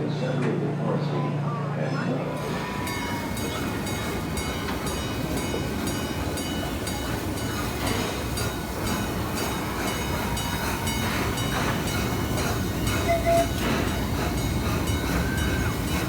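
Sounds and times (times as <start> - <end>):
train low rumble: 2.1 - 16.0
wheels clicking: 2.4 - 16.0.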